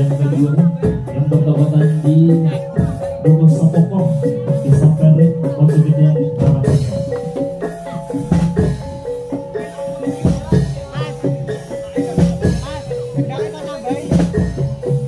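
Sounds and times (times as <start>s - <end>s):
drums: 0.0s - 15.0s
metal mallet instruments ringing: 0.0s - 15.0s.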